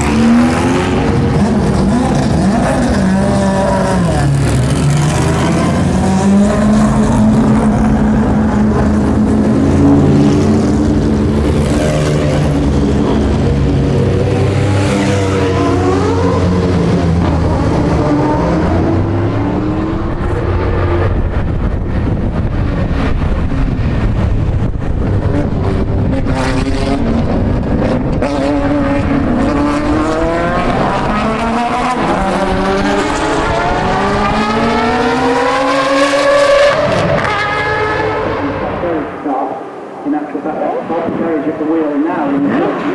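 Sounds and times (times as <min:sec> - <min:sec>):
rotary engine revving: 0:00.0 - 0:22.4, 0:23.9 - 0:38.9.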